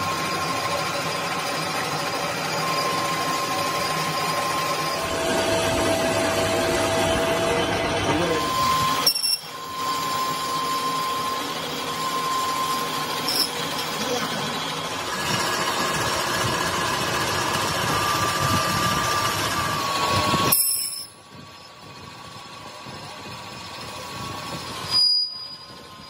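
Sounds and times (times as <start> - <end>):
metal lathe cutting steel: 0.0 - 26.0.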